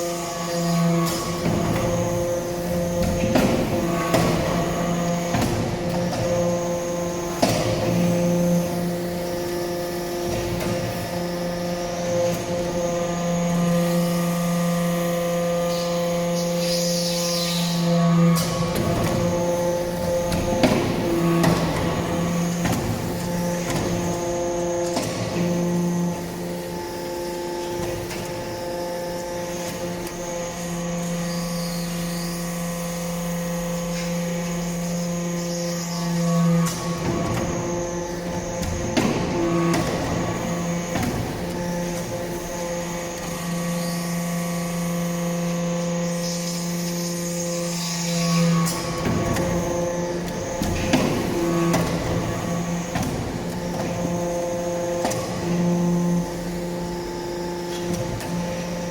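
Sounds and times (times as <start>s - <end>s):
hydraulic press humming: 0.0s - 58.9s.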